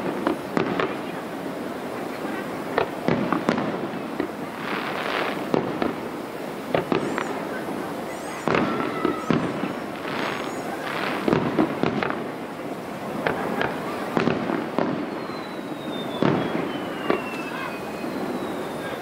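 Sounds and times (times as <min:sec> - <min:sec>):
crackling hiss: 0:00.0 - 0:19.0
fireworks bursting bangs: 0:00.0 - 0:19.0.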